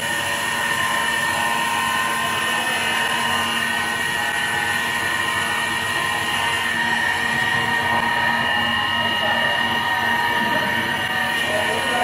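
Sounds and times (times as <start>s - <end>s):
cutter shaving wood: 0.0s - 12.0s
lathe mechanical whine: 0.0s - 12.0s.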